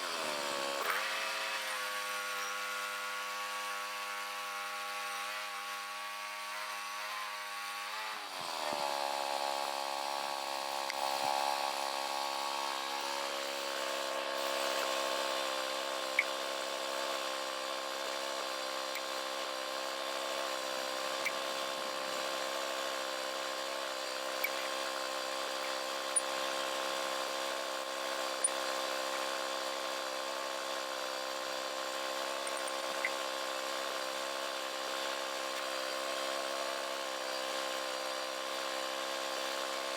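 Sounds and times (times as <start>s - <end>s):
chainsaw engine cutting log: 0.0s - 39.9s.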